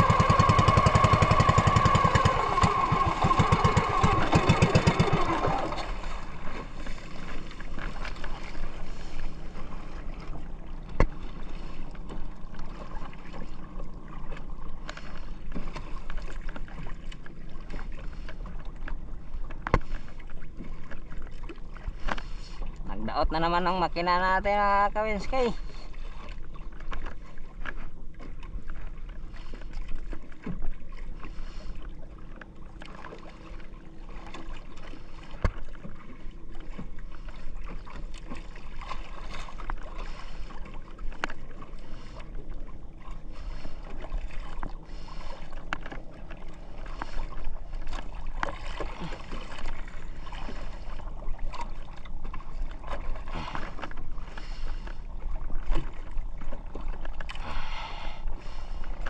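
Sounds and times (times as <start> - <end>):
water splashing against hull: 0.0 - 59.0
wind: 0.0 - 59.0.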